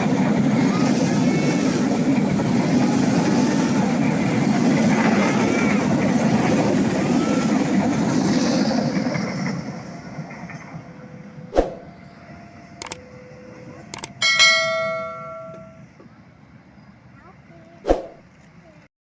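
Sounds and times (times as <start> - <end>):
train rumbling past on rails: 0.0 - 17.1.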